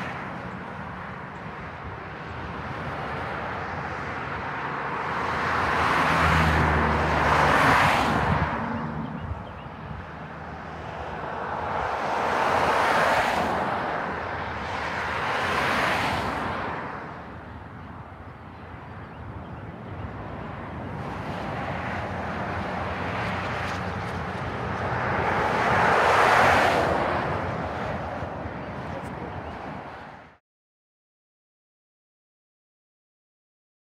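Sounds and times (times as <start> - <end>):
cars passing at speed: 0.0 - 30.4.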